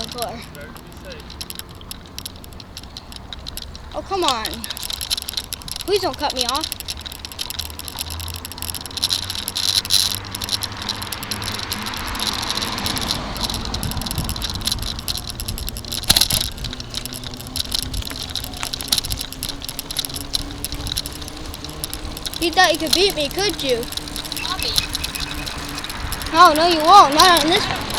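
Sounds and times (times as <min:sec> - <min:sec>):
bicycle rattling and clicking: 0:00.0 - 0:27.9
car passing: 0:00.0 - 0:27.9
traffic noise: 0:00.0 - 0:27.9.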